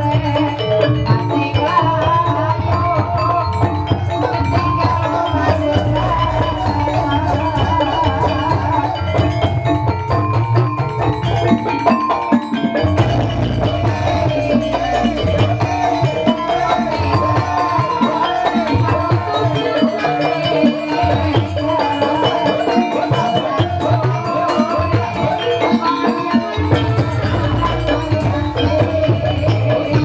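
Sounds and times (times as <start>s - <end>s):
drums: 0.0s - 30.0s
mallet-struck keyed instruments: 0.0s - 30.0s
wavering melodic line: 0.0s - 30.0s.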